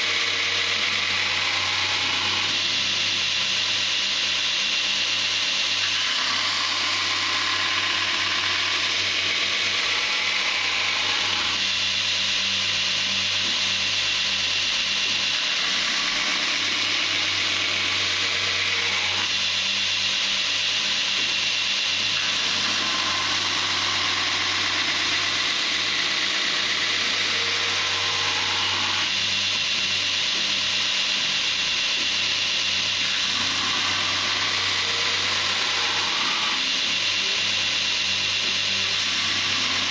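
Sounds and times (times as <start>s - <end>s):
grinder motor hum: 0.0s - 39.9s
steel grinding on belt grinder: 0.0s - 39.9s.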